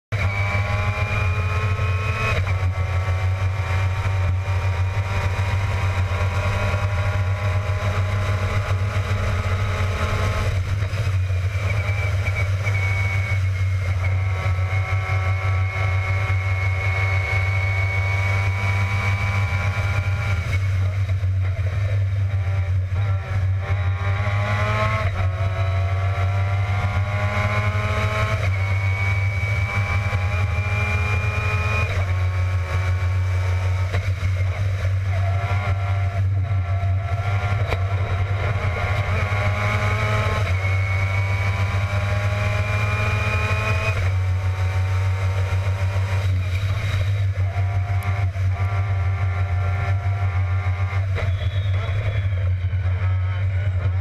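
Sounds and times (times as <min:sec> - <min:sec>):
race car engine at high revs: 0:00.1 - 0:54.0.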